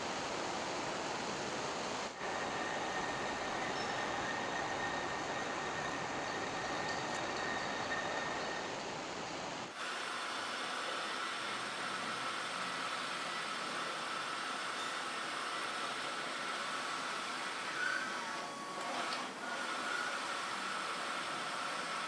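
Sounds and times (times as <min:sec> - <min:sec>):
thin machine sound with higher whine: 0:01.2 - 0:22.0
workshop machine with faint whine: 0:01.8 - 0:22.0.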